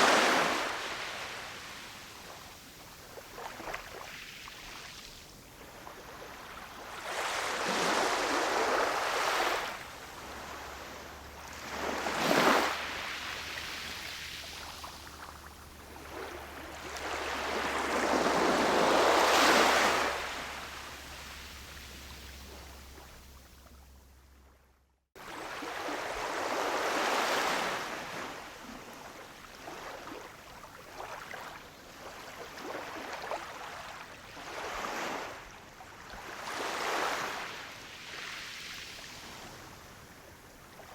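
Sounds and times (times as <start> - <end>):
ocean waves washing ashore: 0.0 - 24.0, 25.2 - 35.8.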